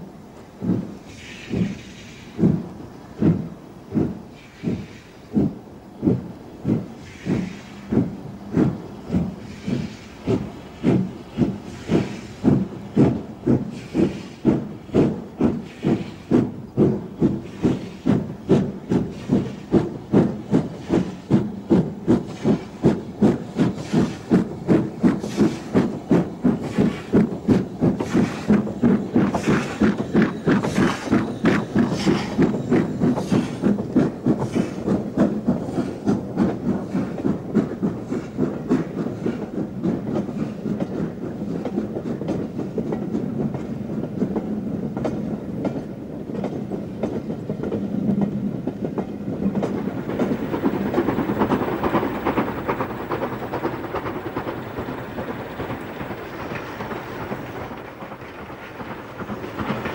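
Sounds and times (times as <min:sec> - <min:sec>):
steam locomotive exhaust beats: 0:00.0 - 0:59.9
steam hissing: 0:00.6 - 0:42.5, 0:48.9 - 0:59.9.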